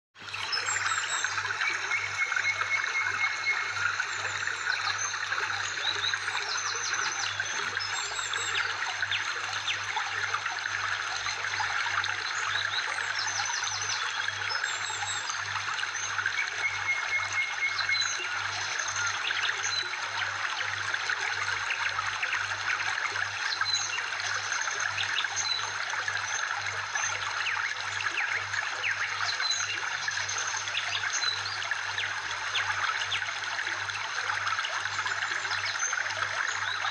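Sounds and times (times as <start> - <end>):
water trickling: 0.2 - 36.9.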